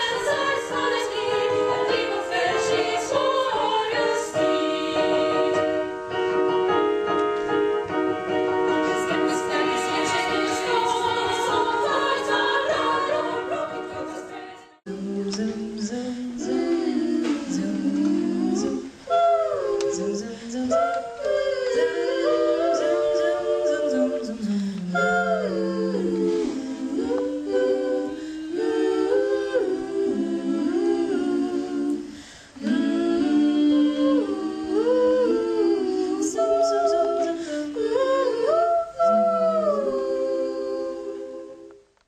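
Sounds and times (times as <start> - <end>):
women singing in harmony: 0.0 - 42.0.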